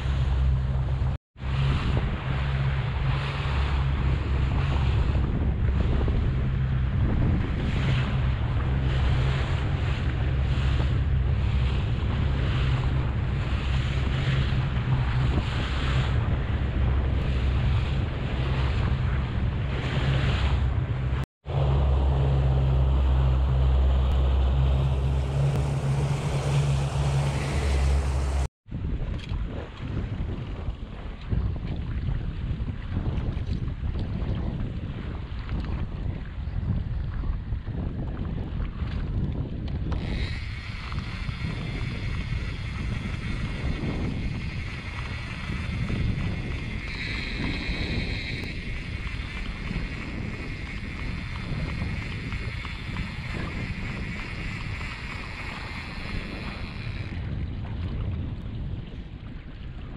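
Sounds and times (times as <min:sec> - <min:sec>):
outboard engine hum: 0:00.0 - 0:59.9
water slapping against hull: 0:00.0 - 0:59.9
wind on microphone: 0:00.0 - 0:59.9.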